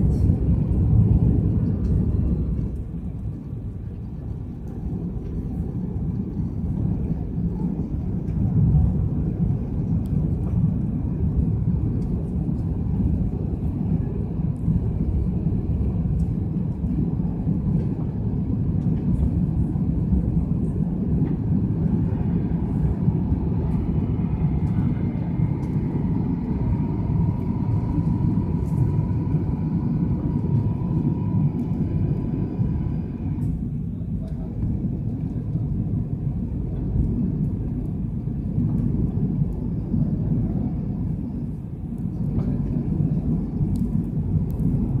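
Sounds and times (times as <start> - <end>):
aircraft engine and airflow rumble: 0.0 - 45.0
faint steady whine: 0.0 - 45.0.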